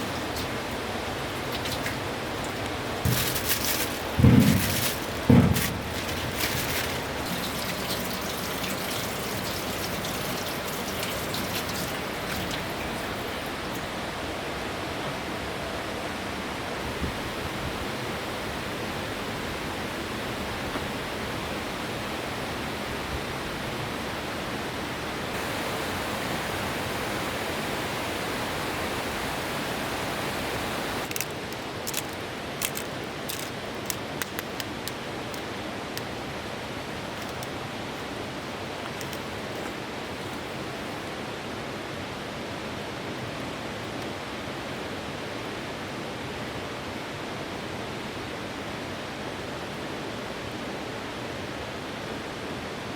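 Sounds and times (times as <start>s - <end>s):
river rushing: 0.0s - 52.9s.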